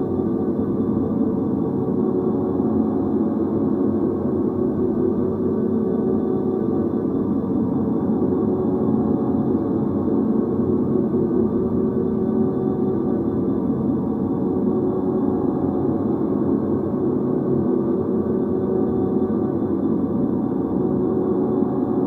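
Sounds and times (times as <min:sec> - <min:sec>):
ambient drone of held tones: 0:00.0 - 0:22.0.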